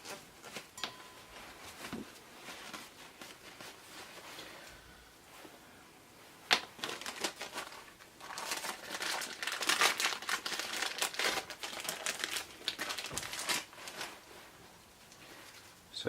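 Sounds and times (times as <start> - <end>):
crinkling and rustling of parts: 0.0 - 4.8, 6.4 - 15.9.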